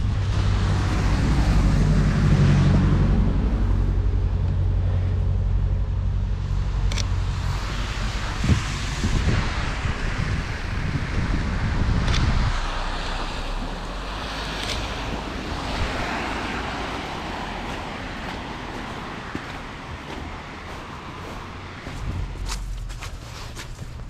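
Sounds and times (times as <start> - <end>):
low hum: 0.0 - 24.0
wind noise on microphone: 0.0 - 24.0.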